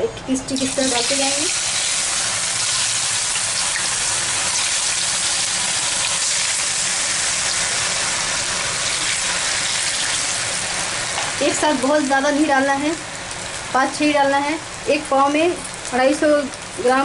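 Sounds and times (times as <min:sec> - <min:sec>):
hot oil sizzling in a pan: 0:00.5 - 0:17.0.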